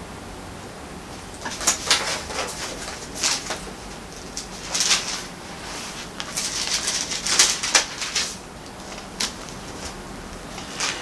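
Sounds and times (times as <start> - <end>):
book pages rustling and turning: 1.2 - 11.0.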